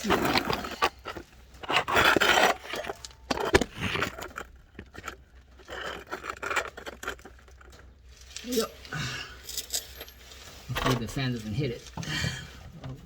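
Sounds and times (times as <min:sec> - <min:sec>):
metal scraping: 0:00.0 - 0:13.0.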